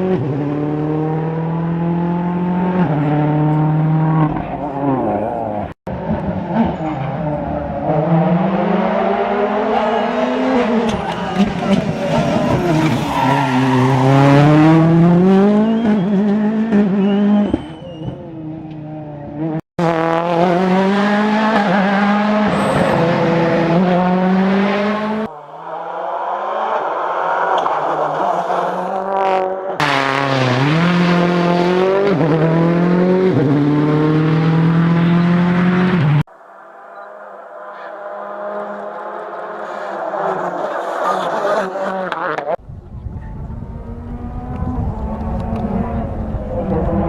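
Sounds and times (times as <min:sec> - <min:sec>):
rally car engines revving: 0:00.0 - 0:36.3, 0:37.2 - 0:47.0.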